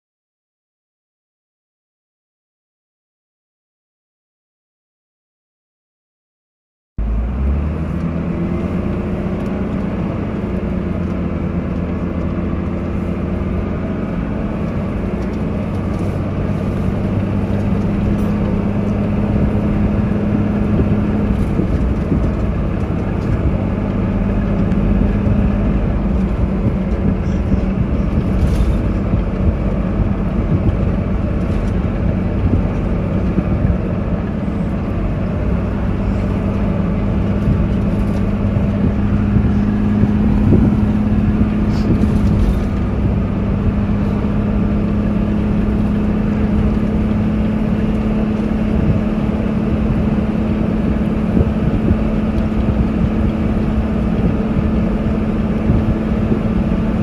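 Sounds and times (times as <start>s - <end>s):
bus diesel engine pulling uphill: 7.0s - 57.0s.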